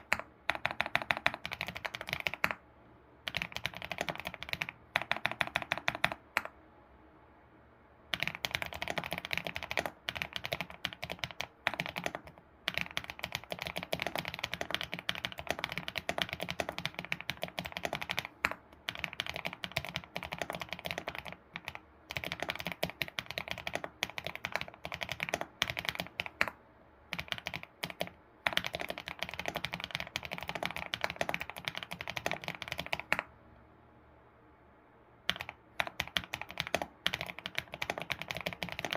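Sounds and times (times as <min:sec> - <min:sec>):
computer keyboard typing: 0:00.0 - 0:02.6, 0:03.2 - 0:06.6, 0:08.1 - 0:33.3, 0:35.2 - 0:38.9.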